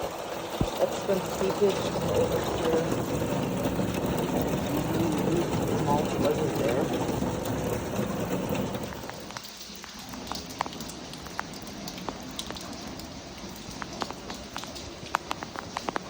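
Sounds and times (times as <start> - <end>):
steady rain falling: 0.0 - 16.0
drops ticking on surfaces: 0.6 - 16.0.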